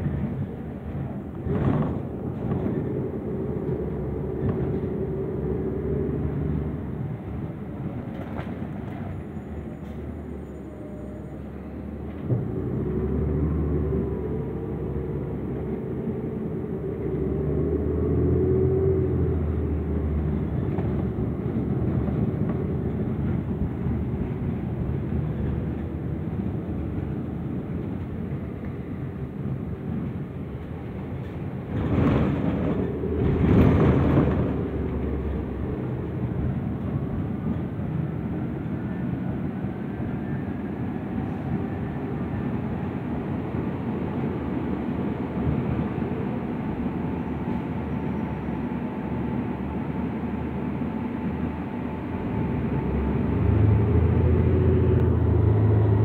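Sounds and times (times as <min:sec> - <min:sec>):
bus engine droning: 0:00.0 - 0:56.0
road noise: 0:00.0 - 0:56.0.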